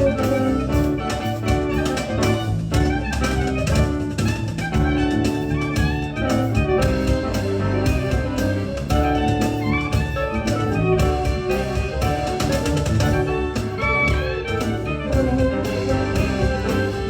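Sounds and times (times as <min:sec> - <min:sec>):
live ensemble music: 0:00.0 - 0:17.0.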